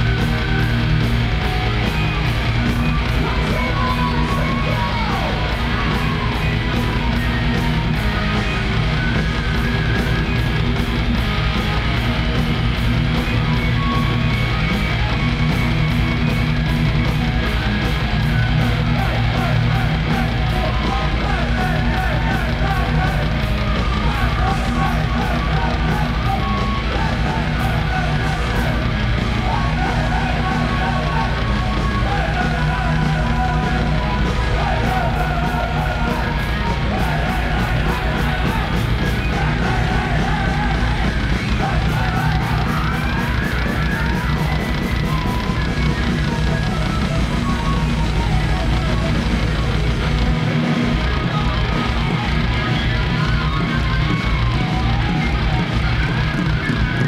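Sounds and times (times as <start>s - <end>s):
distorted electric guitar: 0.0s - 57.0s
driving drums: 0.0s - 57.0s.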